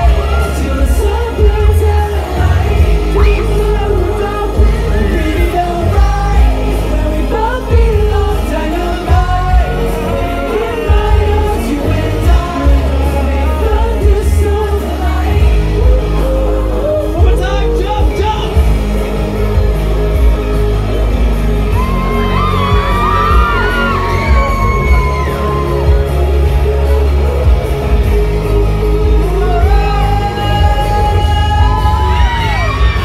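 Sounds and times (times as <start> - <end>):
men singing: 0.0 - 19.1, 22.3 - 33.0
heavy steady bass: 0.0 - 33.0
pop song through sound system: 0.0 - 33.0.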